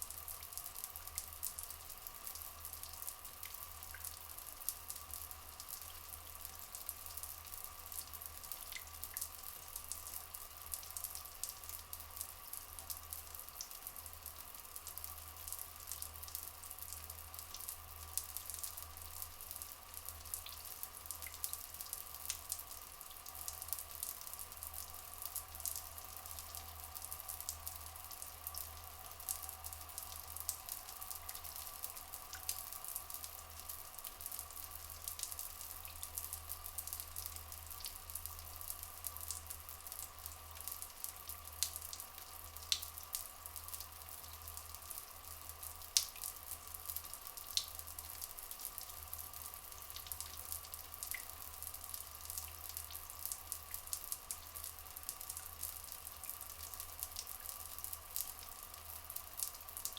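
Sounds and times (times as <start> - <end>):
dripping and trickling water: 0.0 - 59.9.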